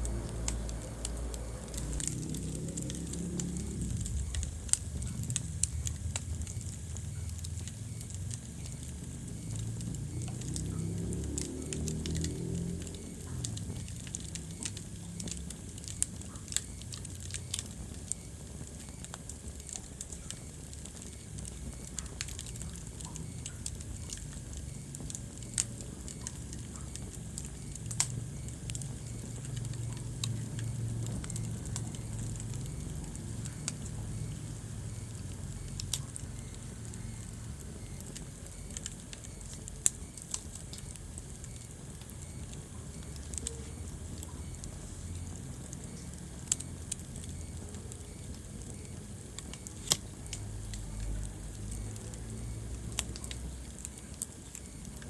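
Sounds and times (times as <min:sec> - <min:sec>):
fire rumbling and hissing: 0:00.0 - 0:55.0
logs crackling and popping: 0:00.0 - 0:55.0.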